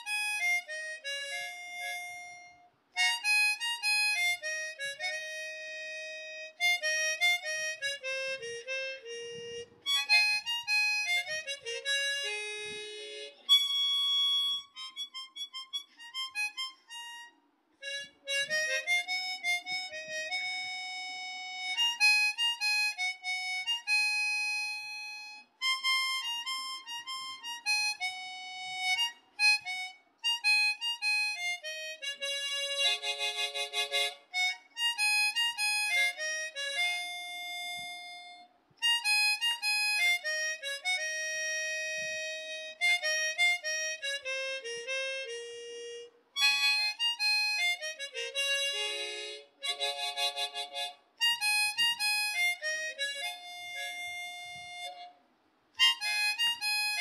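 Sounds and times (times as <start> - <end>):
background music melody: 0.0 - 57.0.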